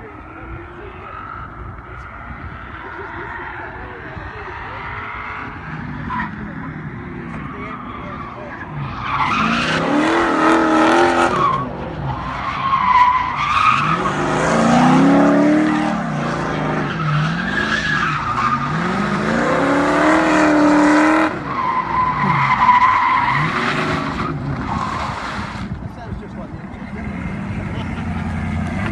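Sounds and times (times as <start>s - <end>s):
car engine revving: 0.0s - 25.8s, 26.7s - 28.9s.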